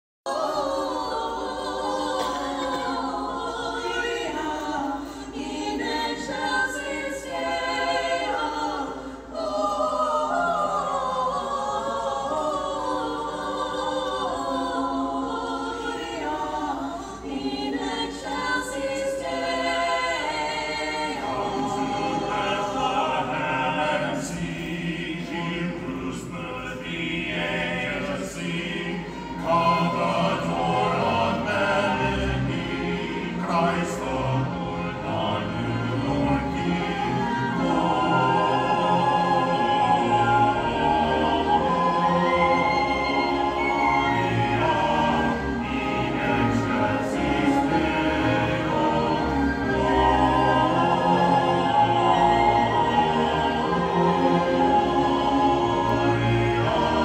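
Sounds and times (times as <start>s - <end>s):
mixed choir singing: 0.3s - 57.0s.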